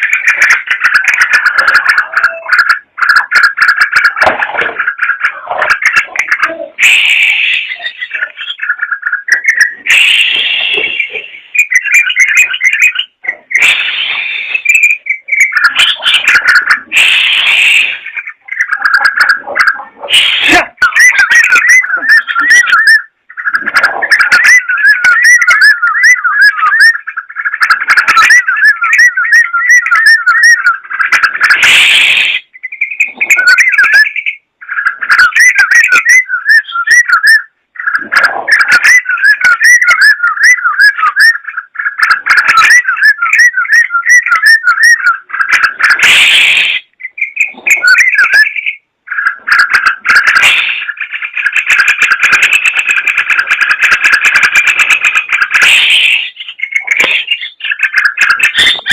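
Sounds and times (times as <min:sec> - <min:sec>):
bird chattering song: 0:00.0 - 0:58.9.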